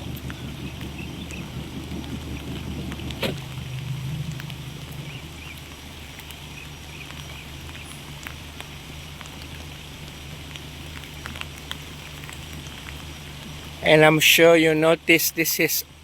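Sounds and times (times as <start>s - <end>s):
steady low hum: 0.0s - 15.2s
light rain drops ticking: 0.0s - 16.0s.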